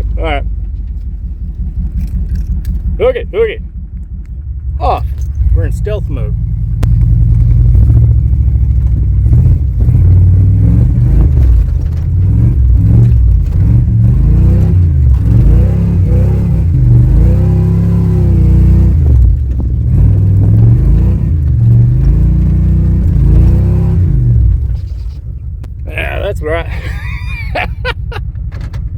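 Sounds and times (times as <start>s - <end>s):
truck engine revving: 1.5s - 28.2s.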